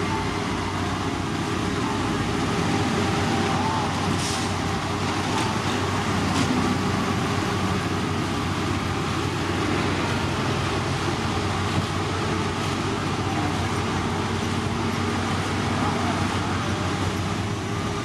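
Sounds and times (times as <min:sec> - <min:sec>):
heavy machinery diesel engine: 0:00.0 - 0:18.0.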